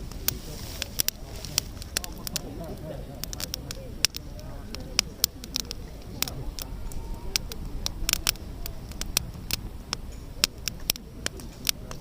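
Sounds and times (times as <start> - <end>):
campfire crackling: 0.0 - 12.0
fire pops and snaps: 0.0 - 12.0.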